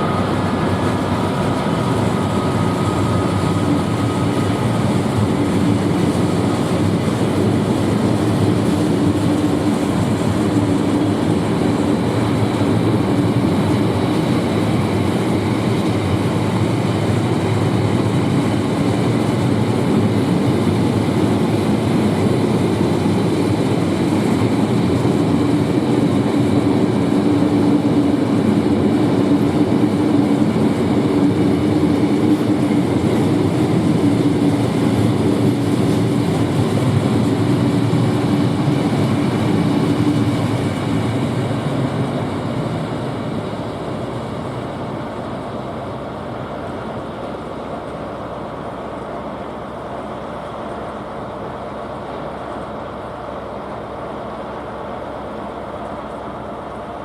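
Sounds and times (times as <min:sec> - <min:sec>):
constant hum: 0:00.0 - 0:57.0
freight train rolling past: 0:00.0 - 0:57.0.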